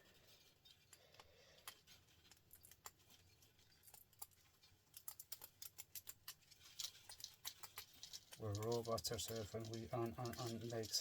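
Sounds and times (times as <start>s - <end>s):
light clicks and ticks: 0.4s - 11.0s.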